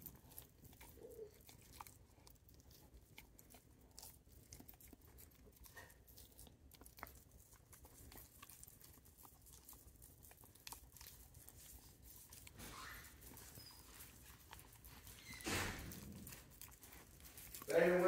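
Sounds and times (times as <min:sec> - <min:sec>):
dog chewing and licking: 0:00.0 - 0:18.0.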